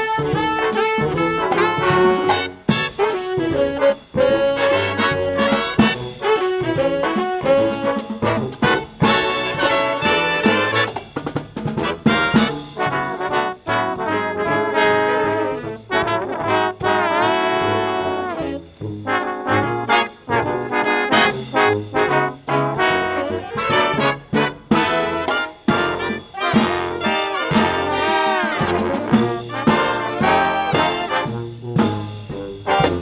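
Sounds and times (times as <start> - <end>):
marching band playing: 0.0 - 33.0
trombones: 0.0 - 33.0.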